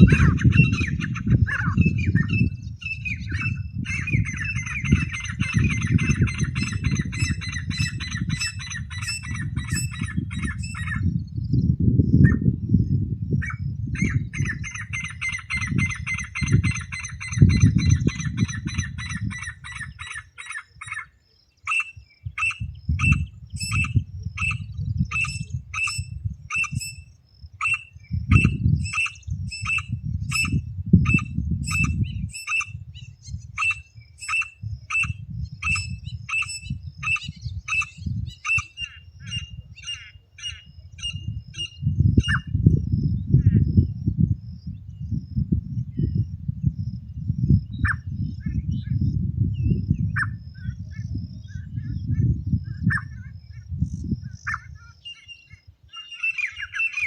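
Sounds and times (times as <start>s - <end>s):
partridge calls: 0.0s - 11.2s, 13.4s - 42.6s, 47.7s - 57.0s.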